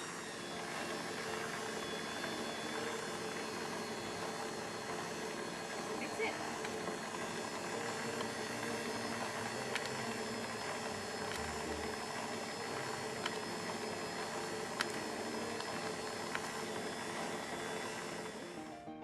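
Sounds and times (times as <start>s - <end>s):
stand mixer motor running: 0.0s - 18.9s.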